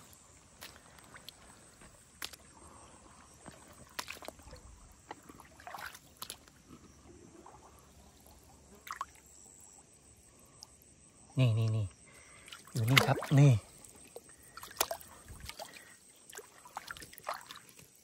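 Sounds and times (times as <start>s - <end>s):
water sloshing and splashing: 0.0s - 9.8s, 12.2s - 18.0s.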